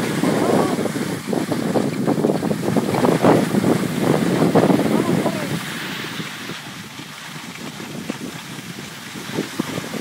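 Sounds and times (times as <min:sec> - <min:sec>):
skis scraping over snow: 0:00.0 - 0:10.0
wind buffeting microphone: 0:00.0 - 0:10.0.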